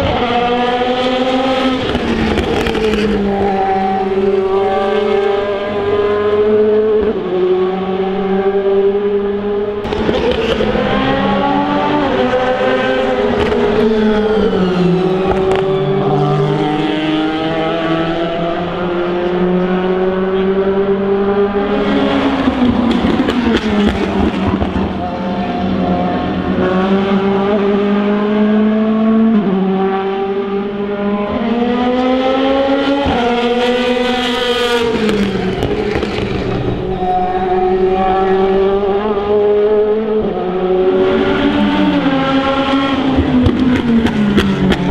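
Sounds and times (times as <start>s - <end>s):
race car engines running loud: 0.0s - 44.9s.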